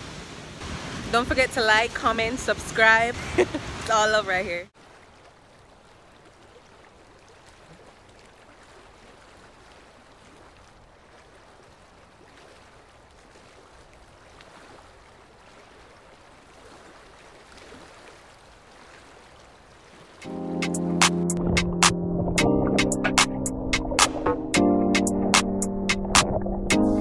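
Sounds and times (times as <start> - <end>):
river flowing: 0.0 - 21.7.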